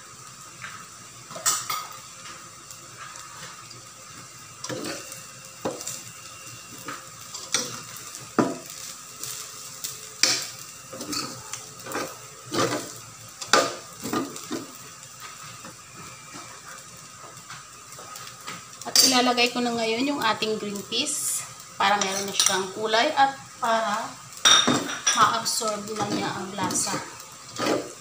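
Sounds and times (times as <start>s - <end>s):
low frying sizzle: 0.0s - 28.0s.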